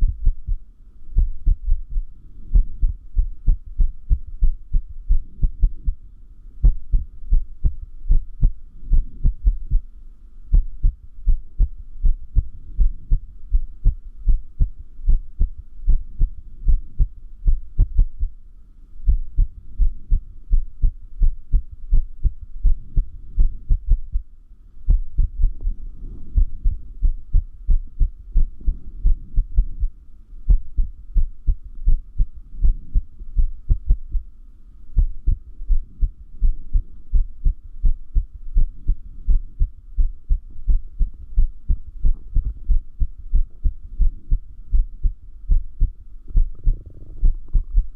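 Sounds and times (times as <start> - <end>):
irregular heartbeat: 0.0 - 18.4, 19.0 - 34.3, 34.9 - 47.9.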